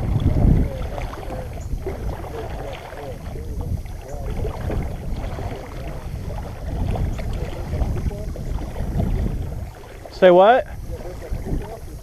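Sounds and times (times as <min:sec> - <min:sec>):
river water sloshing and splashing: 0:00.0 - 0:12.0.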